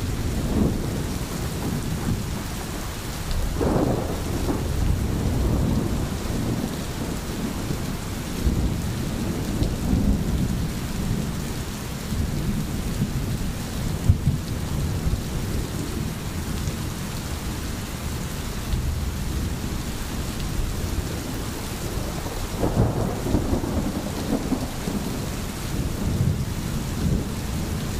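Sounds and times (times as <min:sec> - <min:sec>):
thunder rumbling: 0:00.0 - 0:16.6, 0:18.7 - 0:27.9
rain hiss: 0:00.0 - 0:27.9.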